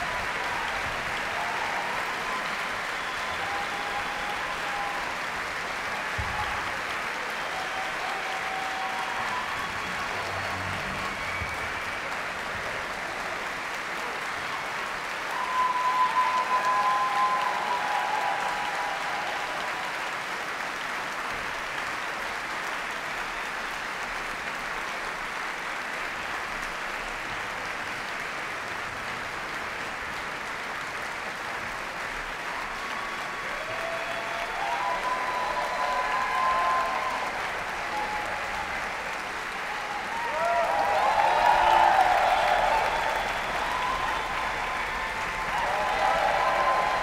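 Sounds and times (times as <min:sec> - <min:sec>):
audience applauding: 0:00.0 - 0:47.0
crowd cheering: 0:00.0 - 0:47.0.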